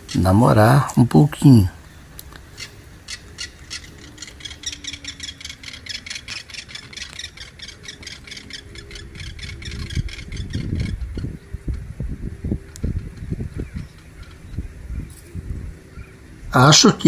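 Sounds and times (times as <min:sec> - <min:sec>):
hawks calling: 0:00.0 - 0:17.0.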